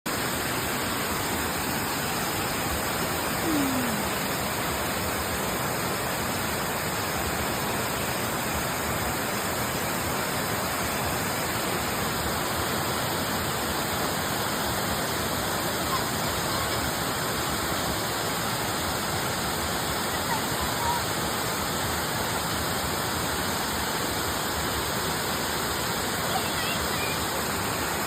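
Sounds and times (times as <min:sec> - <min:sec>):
waterfall rushing: 0:00.1 - 0:28.0.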